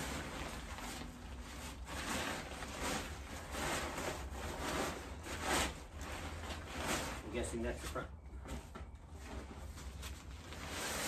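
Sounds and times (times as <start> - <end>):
fabric rustling and swishing: 0.0 - 11.0.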